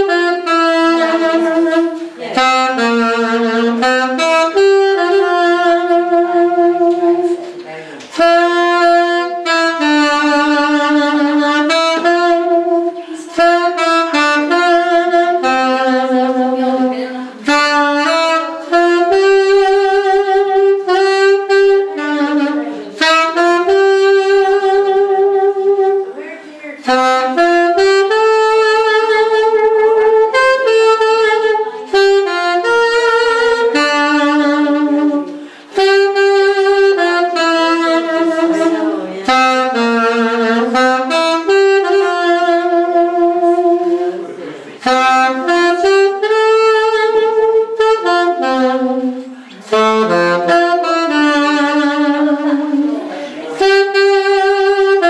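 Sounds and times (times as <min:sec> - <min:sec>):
alto saxophone melody: 0:00.0 - 0:55.0.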